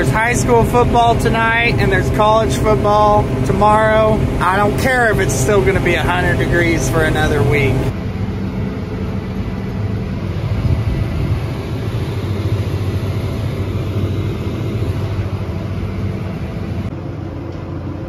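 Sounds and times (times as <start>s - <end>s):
combine harvester diesel drone: 0.0s - 18.0s.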